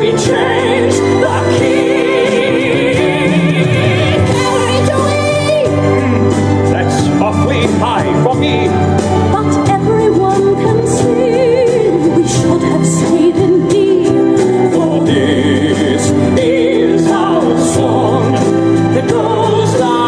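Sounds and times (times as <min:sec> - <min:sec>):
instrumental backing music: 0:00.0 - 0:20.0
person singing with vibrato: 0:00.0 - 0:20.0.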